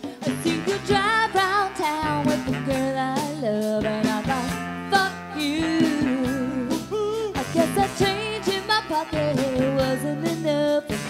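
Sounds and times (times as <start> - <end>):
pop-soul song with guitar: 0.0 - 11.0.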